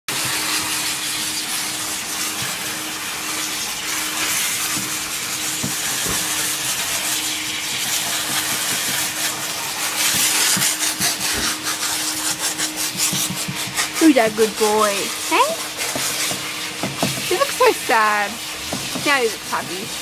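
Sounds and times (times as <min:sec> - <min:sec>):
machine hum: 0:00.1 - 0:20.0
water spraying hiss: 0:00.1 - 0:20.0
rubbing against microphone: 0:03.4 - 0:20.0.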